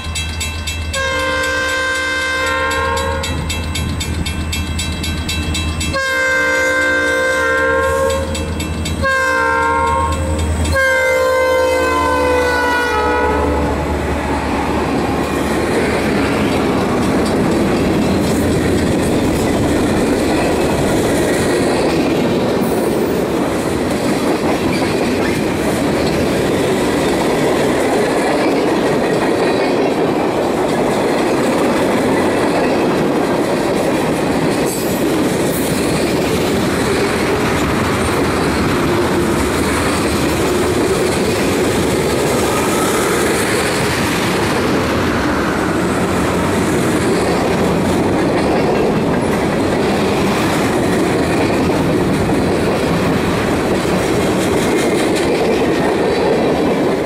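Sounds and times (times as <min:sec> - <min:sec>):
diesel locomotive engine: 0:00.0 - 0:57.0
train wheels rumbling on rails: 0:00.0 - 0:57.0.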